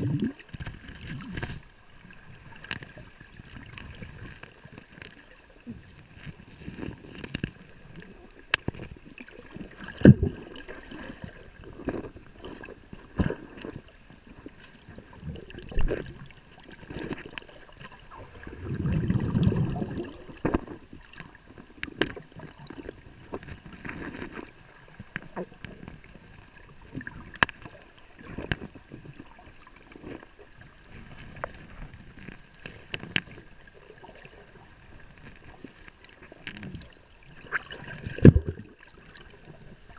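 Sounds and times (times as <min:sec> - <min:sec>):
creek water gurgling: 0:00.0 - 0:39.9
low rush of water: 0:00.0 - 0:39.9.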